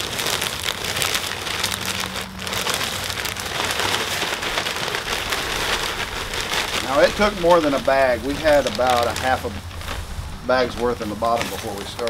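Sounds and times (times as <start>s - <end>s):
plastic bag crinkling: 0.0s - 12.0s
soil pouring from bag: 0.0s - 12.0s.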